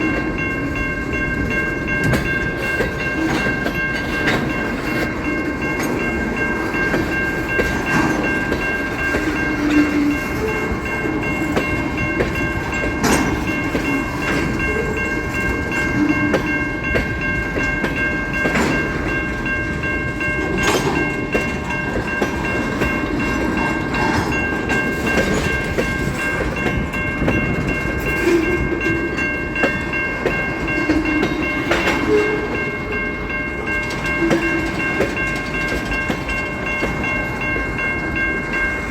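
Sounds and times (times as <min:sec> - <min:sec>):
railcars rumbling: 0:00.0 - 0:38.9
wheels clicking over rail joints: 0:00.0 - 0:38.9.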